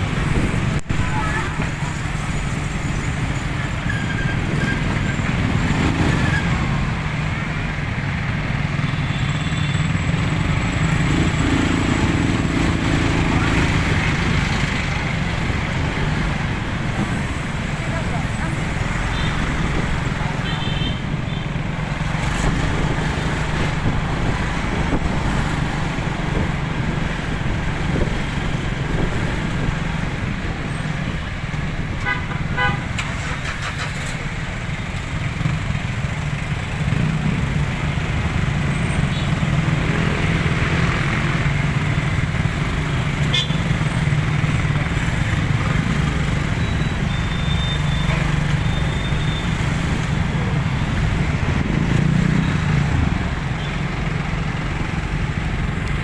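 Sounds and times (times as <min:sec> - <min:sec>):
traffic engines humming: 0:00.0 - 0:56.0.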